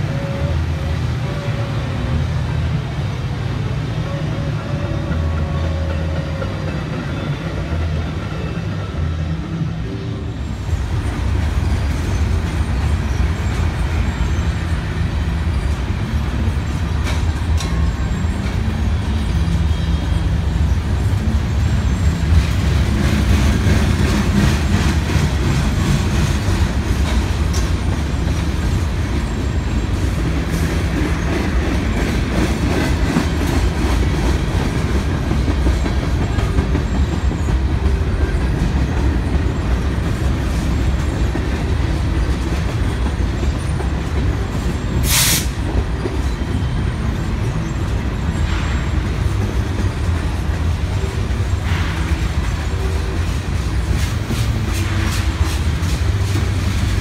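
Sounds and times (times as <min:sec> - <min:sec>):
diesel train rumble: 0:00.0 - 0:57.0
train wheels clacking over rail joints: 0:10.9 - 0:57.0.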